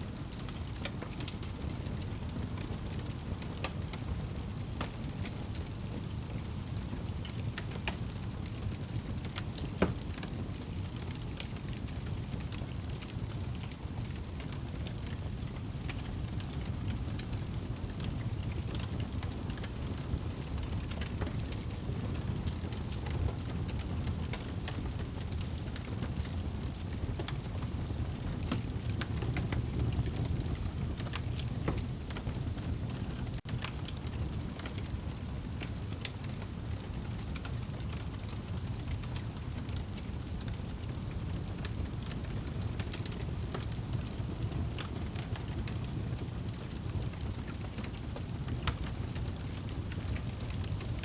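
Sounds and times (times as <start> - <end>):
steady rain: 0.0 - 51.0
fire crackling and popping: 0.1 - 51.0.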